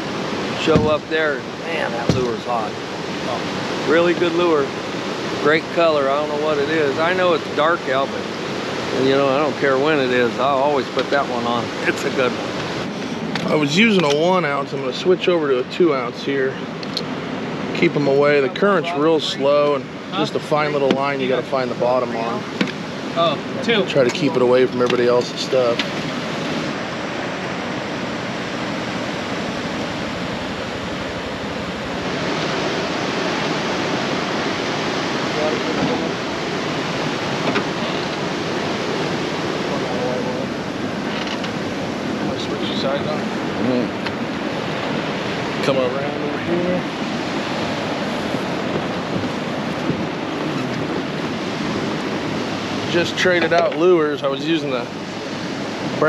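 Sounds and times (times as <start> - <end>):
wind on microphone: 0.0 - 14.4, 16.6 - 53.4
river water rushing: 0.0 - 56.0.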